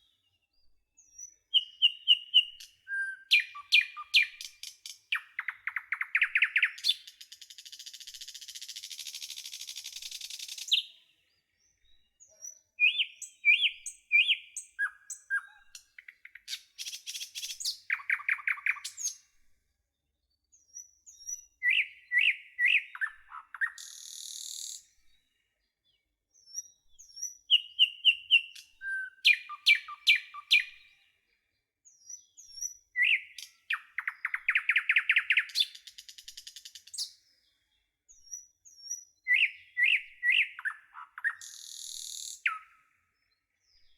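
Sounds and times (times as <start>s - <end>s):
birds chirping and trilling: 0.0s - 19.4s, 20.2s - 43.9s.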